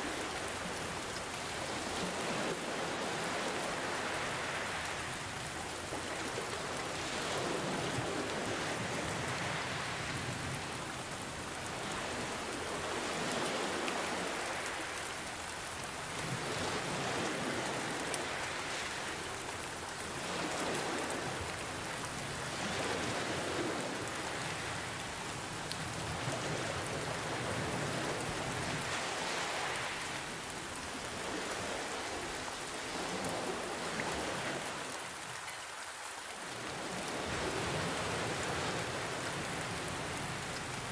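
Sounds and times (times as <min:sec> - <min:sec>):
ocean waves washing in: 0:00.0 - 0:35.3
steady rain: 0:00.0 - 0:40.9.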